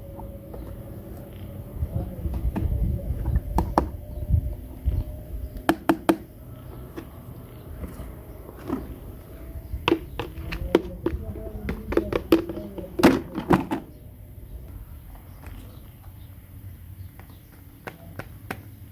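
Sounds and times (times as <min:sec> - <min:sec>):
low handling rumble: 0:00.0 - 0:18.5.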